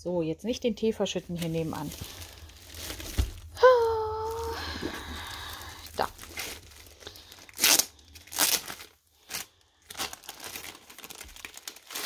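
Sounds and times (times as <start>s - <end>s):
plastic wrapping crinkling and tearing: 1.2s - 12.0s.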